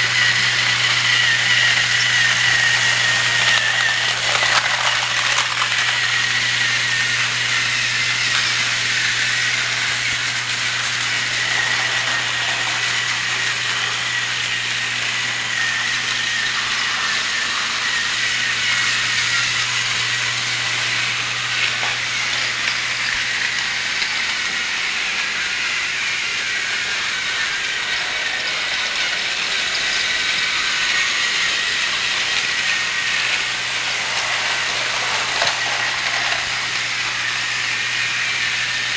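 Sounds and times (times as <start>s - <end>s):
toy train motor whirring: 0.0s - 38.9s.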